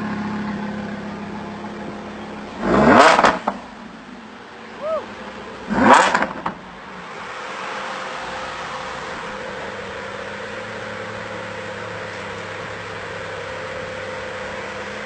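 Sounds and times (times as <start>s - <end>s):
car engine hum: 0.0s - 15.0s
road and wind noise: 0.0s - 15.0s.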